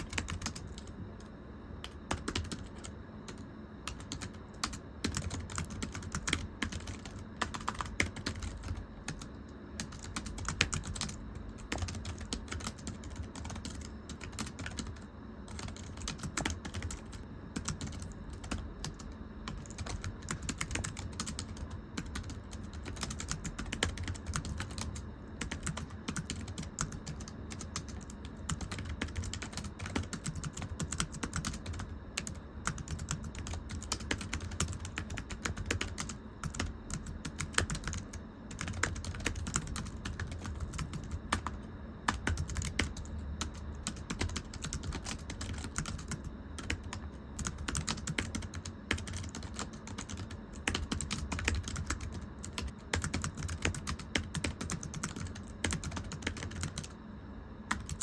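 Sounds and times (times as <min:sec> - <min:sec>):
typing on thin keyboard: 0:00.0 - 0:00.9, 0:01.8 - 0:56.9, 0:57.7 - 0:58.0
steady low hum: 0:00.0 - 0:58.0.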